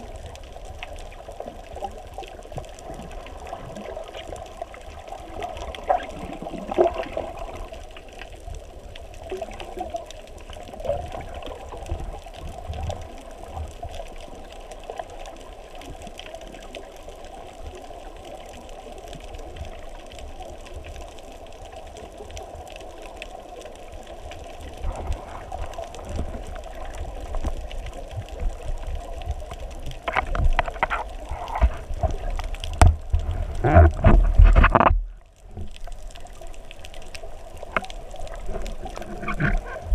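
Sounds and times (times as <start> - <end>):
underwater sloshing and bubbling: 0.0 - 39.9.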